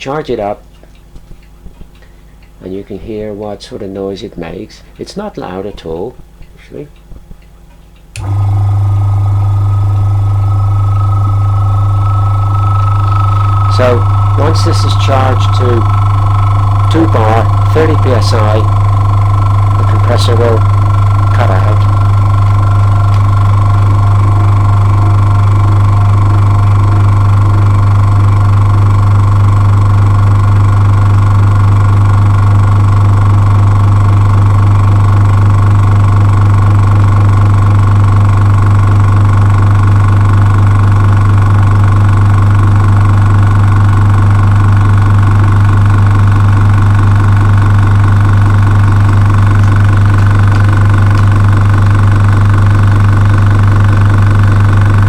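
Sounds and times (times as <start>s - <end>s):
compressor whine: 8.1s - 55.0s
air compressor humming: 8.2s - 55.0s.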